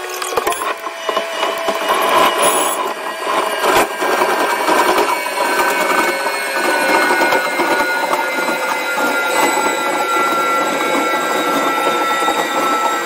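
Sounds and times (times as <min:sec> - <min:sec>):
excavator machinery whining: 0:00.0 - 0:13.0.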